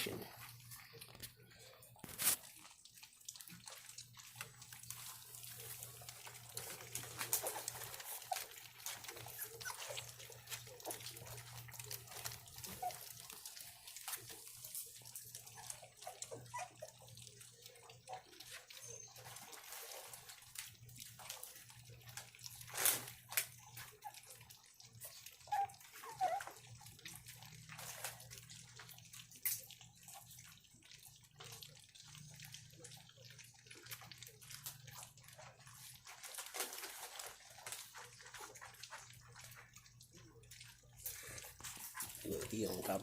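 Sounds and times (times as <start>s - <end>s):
puppies lapping wet food: 0.0s - 43.0s.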